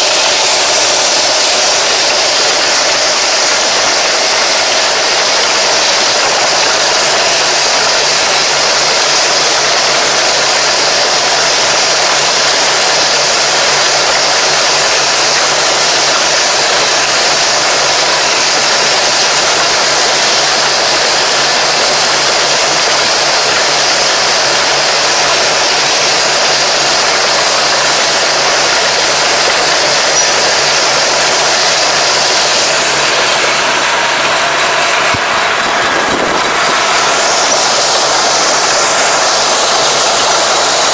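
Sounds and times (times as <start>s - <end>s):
machinery rushing noise: 0.0s - 40.9s
tractor engine running: 0.0s - 40.9s.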